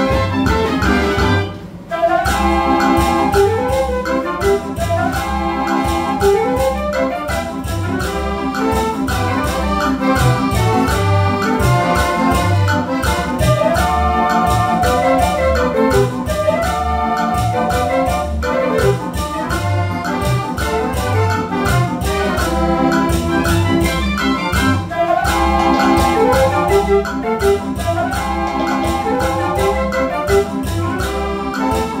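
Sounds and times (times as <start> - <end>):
accordion: 0.0 - 32.0
drum-kit beat: 0.0 - 32.0
pipe-organ melody: 0.0 - 32.0.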